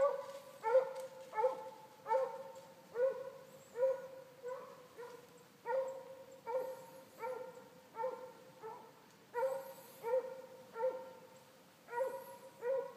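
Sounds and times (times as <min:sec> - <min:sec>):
hound baying: 0:00.0 - 0:11.2, 0:11.9 - 0:12.9.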